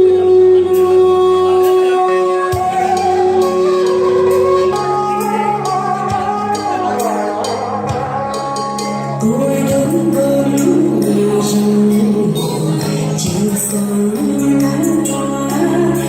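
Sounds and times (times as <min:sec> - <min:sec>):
slow melody of long notes: 0:00.0 - 0:16.0.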